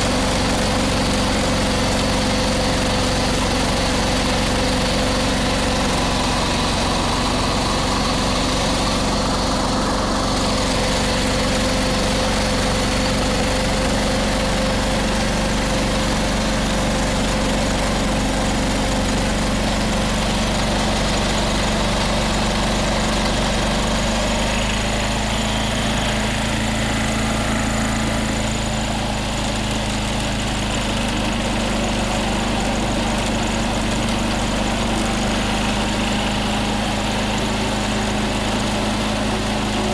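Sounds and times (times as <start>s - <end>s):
garden tractor engine running: 0.0s - 39.9s
snow blower throwing snow: 0.0s - 39.9s.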